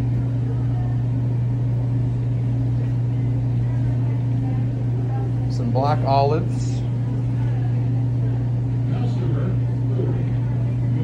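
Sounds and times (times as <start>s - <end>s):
faint voices: 0.0s - 11.0s
steady low hum: 0.0s - 11.0s.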